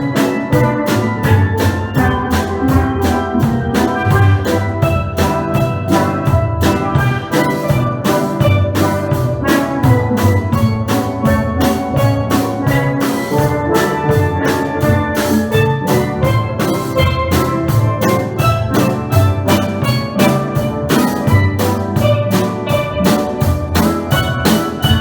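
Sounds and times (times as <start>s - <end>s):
drums keeping a beat: 0.0s - 25.0s
steel pans ringing: 0.0s - 25.0s.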